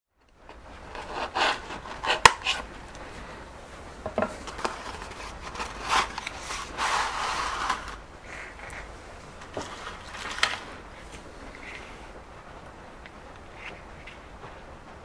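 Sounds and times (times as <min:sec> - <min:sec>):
rustling and rubbing: 0:00.5 - 0:15.0.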